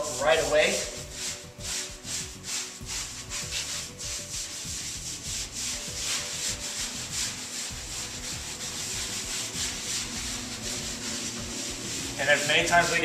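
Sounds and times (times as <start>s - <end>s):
wet sponge scrubbing a wall: 0.0s - 13.0s.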